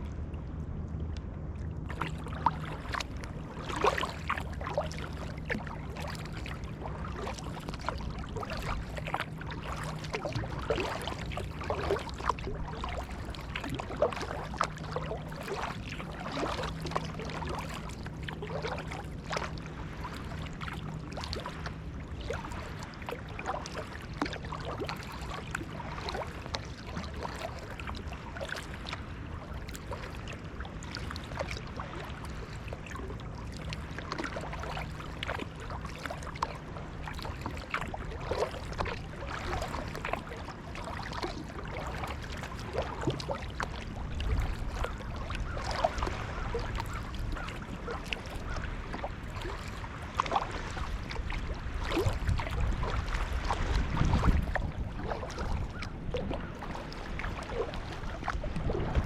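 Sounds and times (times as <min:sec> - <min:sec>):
water washing against hull: 0:00.0 - 0:59.0
water trickling off paddle: 0:00.9 - 0:59.0
paddle splashing in water: 0:01.6 - 0:59.0.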